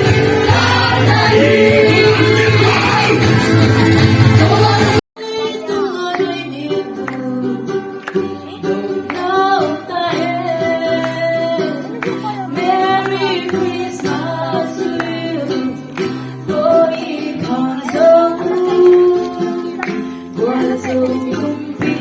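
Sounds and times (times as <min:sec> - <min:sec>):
person singing: 0:00.0 - 0:22.0
strummed acoustic guitar: 0:00.0 - 0:22.0.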